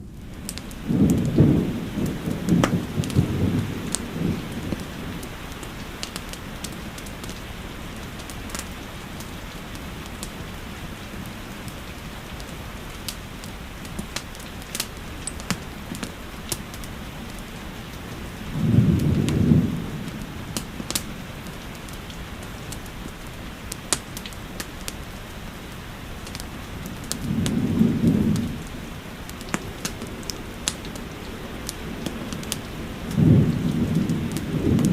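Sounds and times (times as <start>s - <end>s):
crackling fireplace: 0.0s - 34.9s
steady rain: 0.0s - 34.9s.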